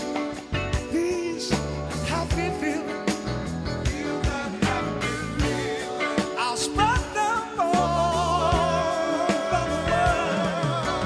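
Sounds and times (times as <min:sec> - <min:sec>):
bass: 0:00.0 - 0:11.0
drum beats: 0:00.0 - 0:11.0
person singing with vibrato: 0:00.8 - 0:03.2, 0:03.8 - 0:11.0.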